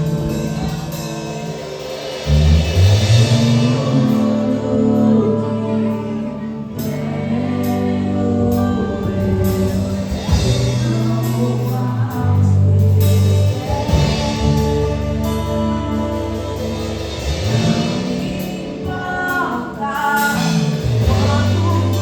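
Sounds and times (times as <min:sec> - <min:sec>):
keyboard chords: 0:00.0 - 0:22.0
low bass line: 0:00.0 - 0:22.0
person singing: 0:03.1 - 0:22.0.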